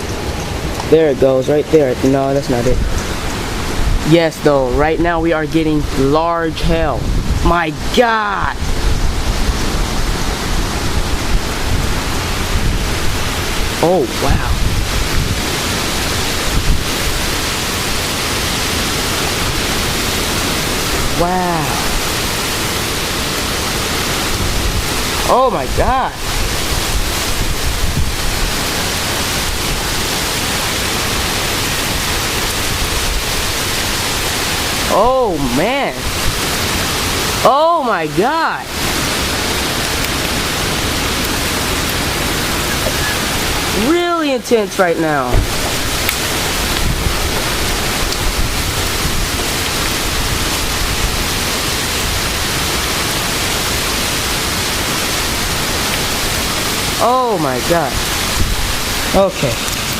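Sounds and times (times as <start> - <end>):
wind rumbling on microphone: 0.0 - 37.4, 45.0 - 57.0, 57.6 - 59.9
heavy rain hissing: 0.0 - 59.9.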